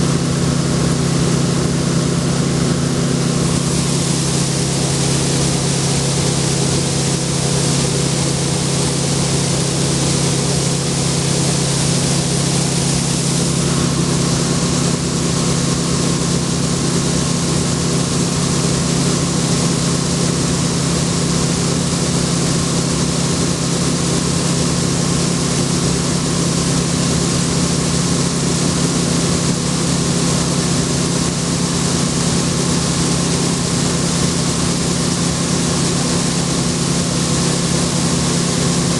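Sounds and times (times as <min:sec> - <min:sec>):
combine engine drone: 0:00.0 - 0:38.9
grain pouring from auger: 0:00.0 - 0:38.9.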